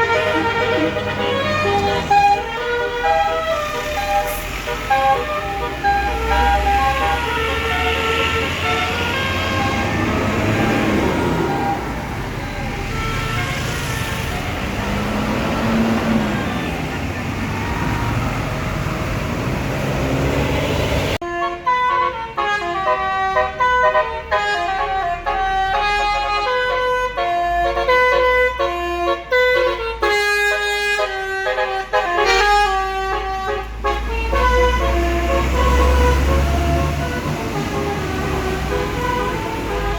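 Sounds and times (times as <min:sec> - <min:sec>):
bus engine rumble: 0:00.0 - 0:39.9
bus multi-tone horn tune: 0:00.0 - 0:39.9
road noise: 0:00.0 - 0:39.9.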